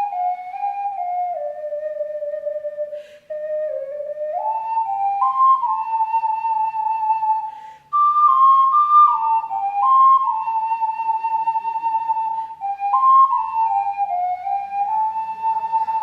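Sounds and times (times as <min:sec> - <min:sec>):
ocarina melody: 0:00.0 - 0:16.0.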